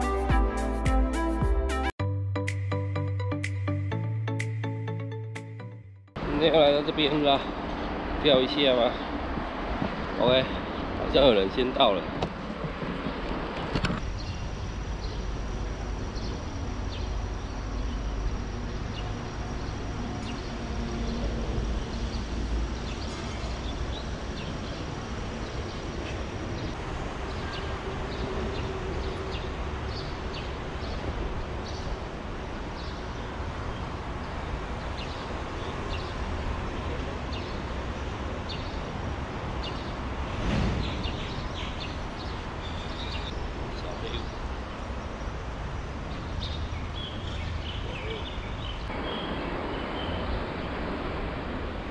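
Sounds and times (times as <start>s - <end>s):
highway traffic rumble: 6.2s - 51.9s.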